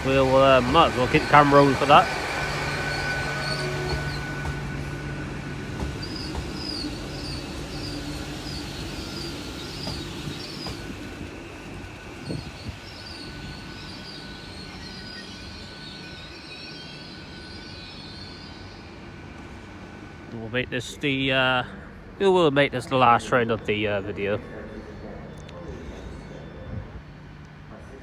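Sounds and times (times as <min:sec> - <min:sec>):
train low hum: 0:00.0 - 0:28.0.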